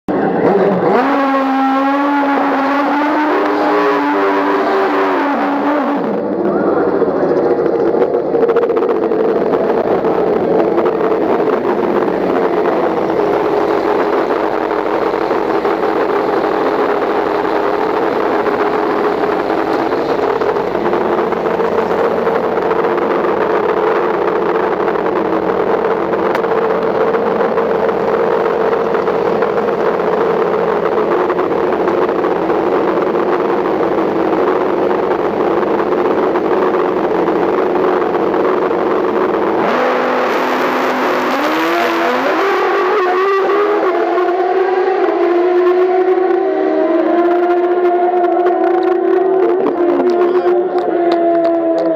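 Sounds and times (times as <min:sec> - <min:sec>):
motorcycle engine revving: 0:00.1 - 0:51.9.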